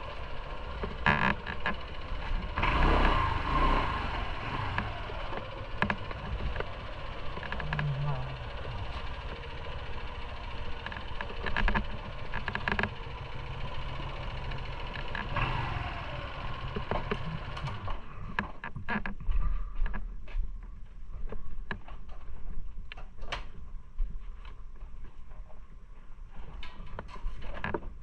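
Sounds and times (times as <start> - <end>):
motorcycle engine and wind rumble: 0.0 - 28.0.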